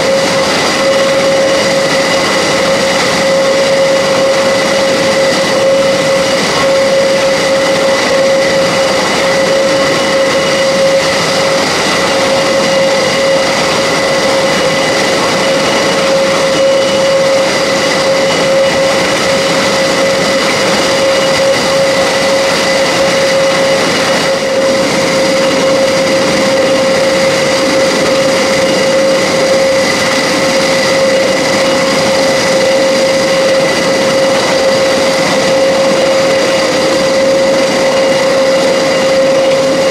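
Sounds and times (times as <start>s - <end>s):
aircraft turbines running: 0.0s - 39.9s
high whistle: 0.0s - 39.9s.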